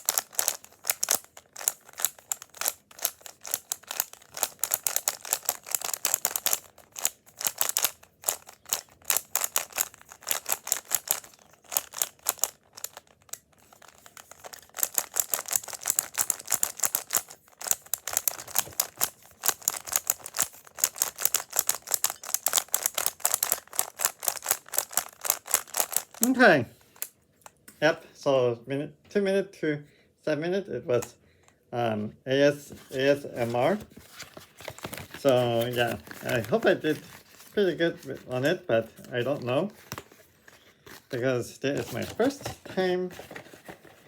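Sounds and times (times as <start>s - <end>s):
puzzle cube clicking: 0.0s - 27.1s, 32.8s - 41.1s.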